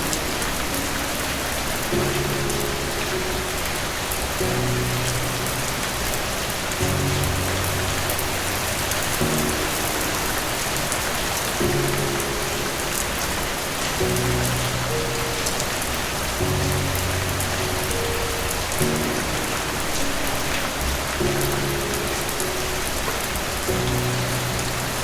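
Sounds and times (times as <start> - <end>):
soft low music notes: 0.0 - 25.0
steady rain falling: 0.0 - 25.0.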